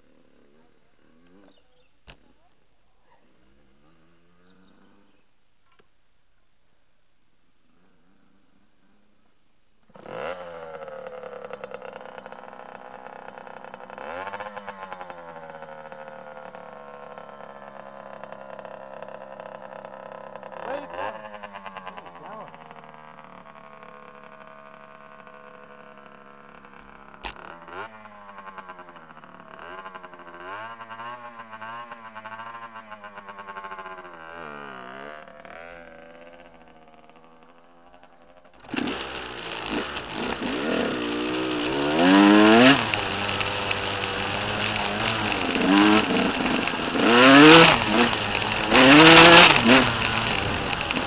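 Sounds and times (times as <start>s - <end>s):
dirt bike engine revving and idling: 0.0s - 5.9s, 7.6s - 51.0s.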